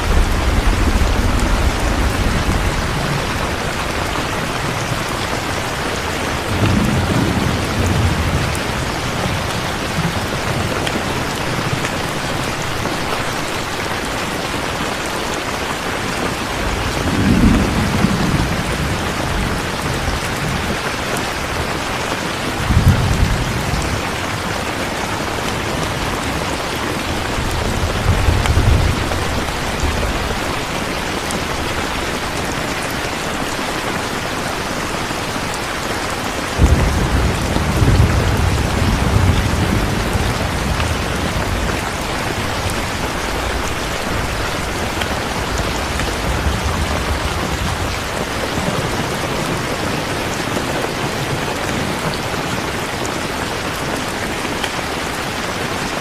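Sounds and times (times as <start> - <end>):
thunder rumbling: 0.0 - 15.0, 15.8 - 53.1
heavy rain falling: 0.0 - 56.0.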